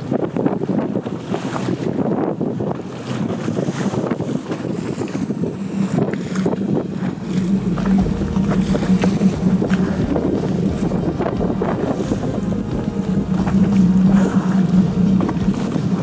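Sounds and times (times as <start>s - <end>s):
boat engine running: 0.0s - 16.0s
water rushing past hull: 0.0s - 16.0s
wind buffeting microphone: 0.0s - 16.0s.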